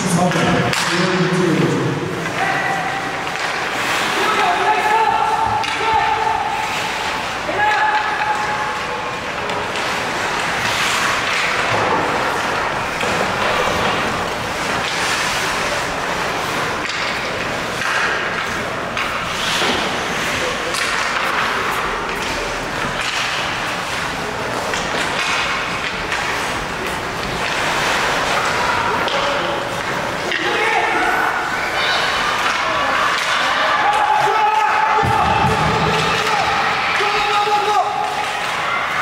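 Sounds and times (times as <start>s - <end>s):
indistinct shouting and chatter: 0.0s - 39.0s
sticks and puck clacking: 0.1s - 39.0s
skates scraping on ice: 1.6s - 7.5s, 8.4s - 34.3s.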